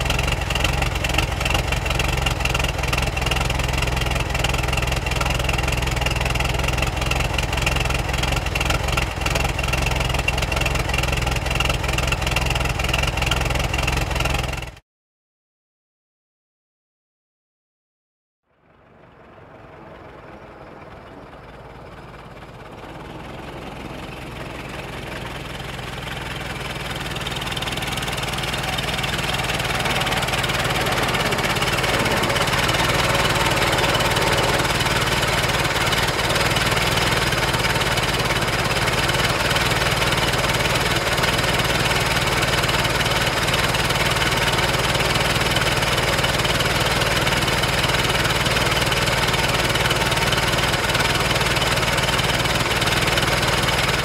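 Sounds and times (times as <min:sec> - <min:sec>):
car engine idling: 0:00.0 - 0:14.7, 0:18.5 - 0:54.0.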